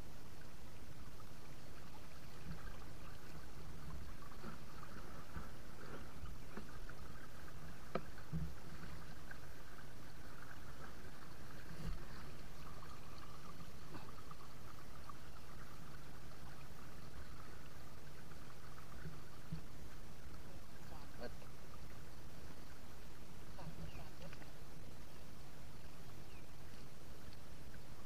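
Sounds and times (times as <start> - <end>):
runoff water rushing through channel: 0.0 - 28.0.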